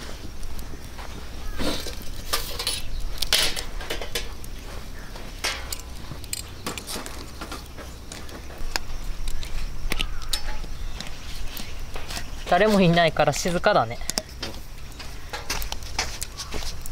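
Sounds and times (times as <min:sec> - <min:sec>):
campfire crackling and popping: 0:00.0 - 0:16.9.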